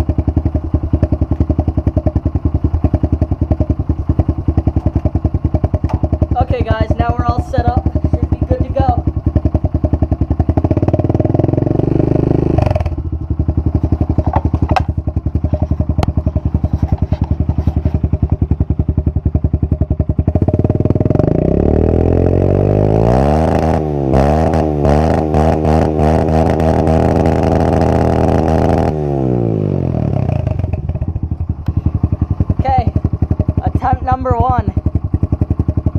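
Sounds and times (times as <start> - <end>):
dirt bike engine idling and revving: 0.0 - 35.9.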